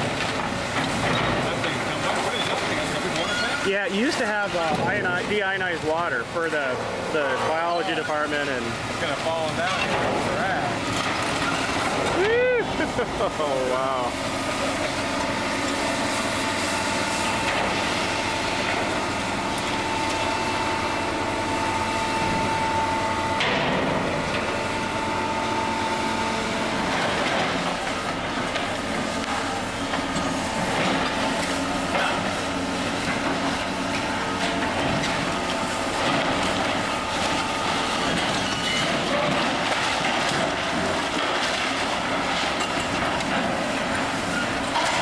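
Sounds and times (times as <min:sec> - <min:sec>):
demolition machinery working: 0:00.0 - 0:45.0.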